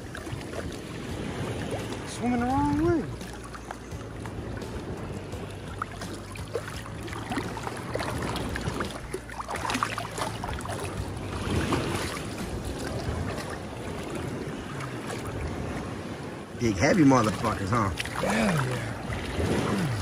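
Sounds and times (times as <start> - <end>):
steady low rumble: 0.0 - 15.9, 16.6 - 20.0
seawater sloshing and splashing: 0.0 - 20.0.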